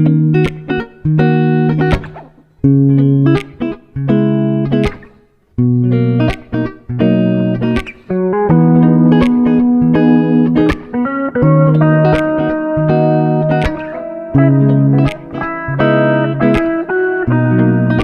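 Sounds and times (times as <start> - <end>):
plucked guitar phrases: 0.0 - 18.0.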